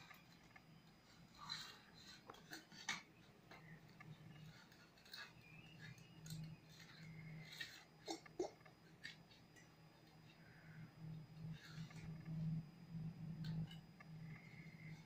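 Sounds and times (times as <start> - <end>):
faint clicks and rustles of handling: 0.0 - 15.0
faint low hum: 0.0 - 15.0.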